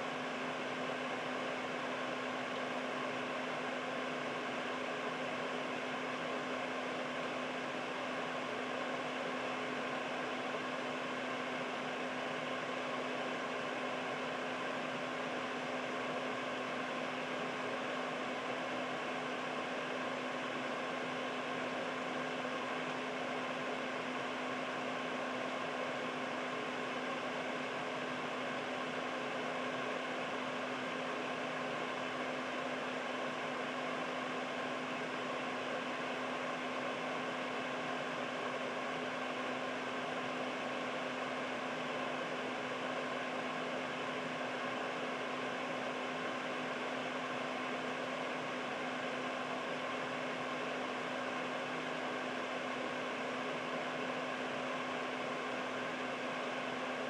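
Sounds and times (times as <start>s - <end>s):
air purifier fan running: 0.0s - 57.0s.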